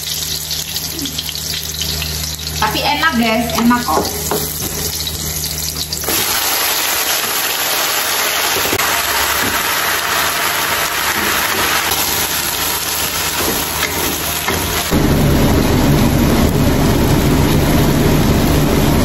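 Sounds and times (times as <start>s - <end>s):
garlic sizzling in oil: 0.0s - 19.0s
loud hiss of leaves frying: 0.0s - 19.0s.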